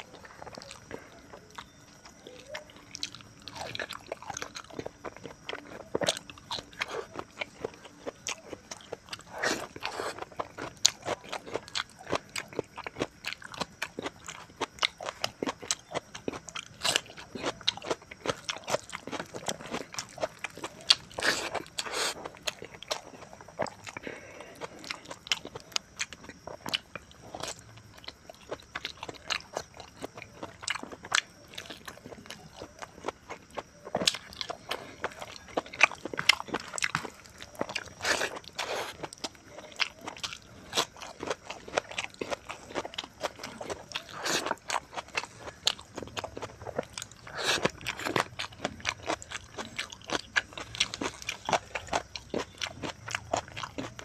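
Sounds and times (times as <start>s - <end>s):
chewing with wet mouth clicks: 0.0s - 54.0s
food crunching: 0.0s - 54.0s.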